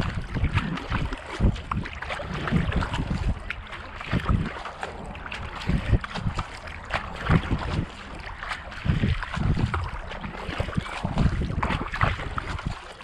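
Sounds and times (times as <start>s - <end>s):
kayak paddle strokes in water: 0.0s - 13.0s
water swishing along hull: 0.0s - 13.0s
wind buffeting microphone: 0.0s - 13.0s.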